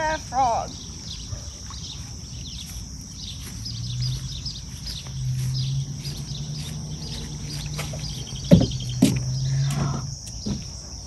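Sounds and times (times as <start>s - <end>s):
birds chirping: 0.0s - 11.0s
insects buzzing: 0.0s - 11.0s.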